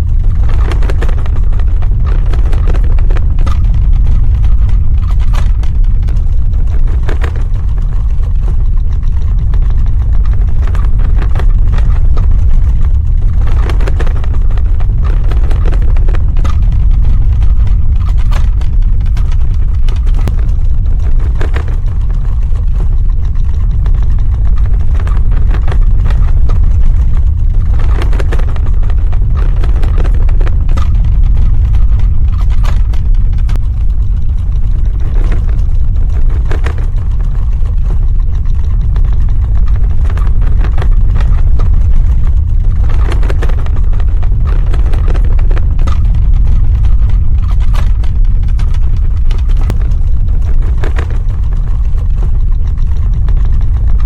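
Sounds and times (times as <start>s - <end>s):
crackles and rattles: 0.0s - 54.0s
deep earthquake rumble: 0.0s - 54.0s.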